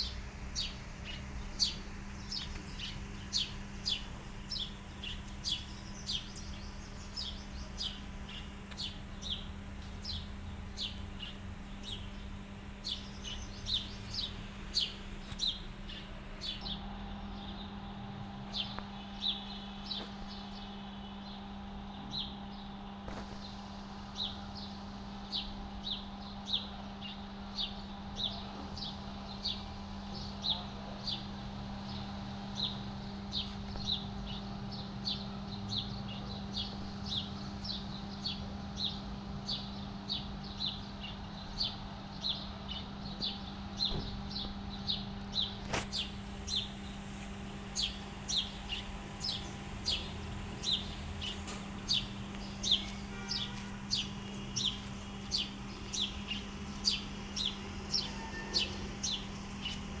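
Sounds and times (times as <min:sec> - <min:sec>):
small bird chirping: 0:00.0 - 0:21.4, 0:22.0 - 1:00.0
steady low hum: 0:00.0 - 1:00.0.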